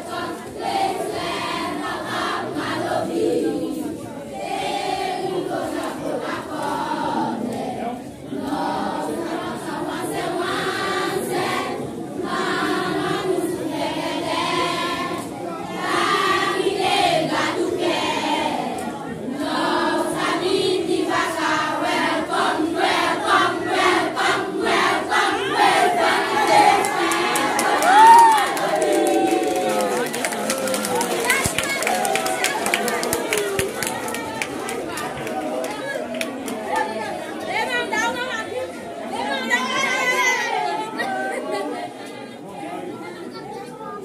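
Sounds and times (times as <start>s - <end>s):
children's choir singing: 0.0s - 44.0s.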